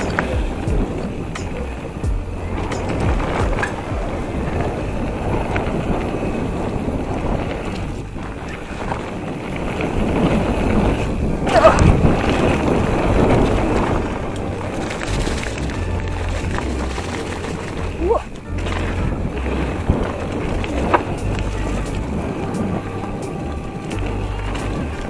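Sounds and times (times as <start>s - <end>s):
bike tyres rolling over dirt: 0.0s - 25.0s
wind on microphone: 0.0s - 25.0s.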